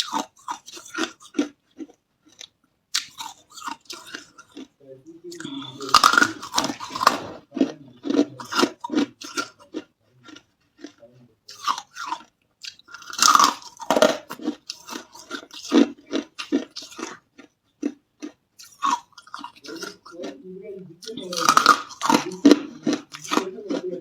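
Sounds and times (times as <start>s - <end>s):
ice being chewed: 0.0s - 20.4s, 21.0s - 24.0s.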